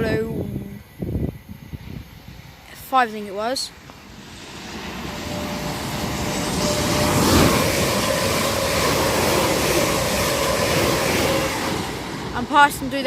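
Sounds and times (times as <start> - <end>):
steady train whine: 0.0 - 13.0
train wheel and rail noise: 0.0 - 13.0.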